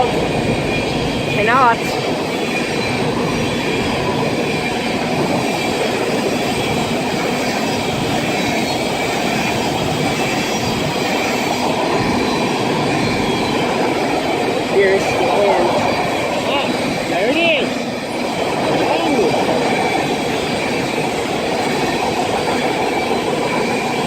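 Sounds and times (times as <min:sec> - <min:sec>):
high wheel squeal: 0:00.0 - 0:24.0
train wheels rumbling on rail: 0:00.0 - 0:24.0.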